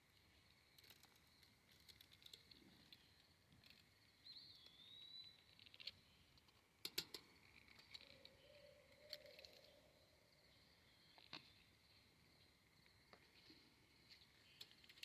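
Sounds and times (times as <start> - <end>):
insect chirring: 0.0 - 13.2.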